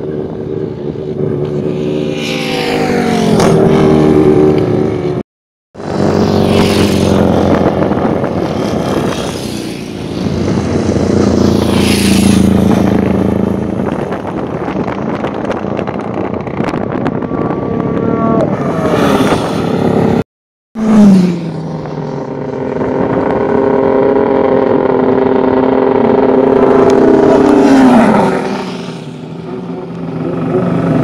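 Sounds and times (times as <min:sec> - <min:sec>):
motorcycle passing by: 0:00.0 - 0:05.2, 0:05.8 - 0:15.3, 0:16.9 - 0:20.2, 0:20.8 - 0:31.0
racing motorcycle engines: 0:00.0 - 0:05.2, 0:05.8 - 0:20.2, 0:20.8 - 0:31.0.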